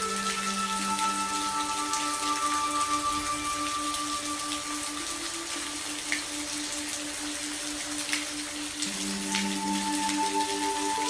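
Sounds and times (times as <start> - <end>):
steady rain hiss: 0.0 - 11.0.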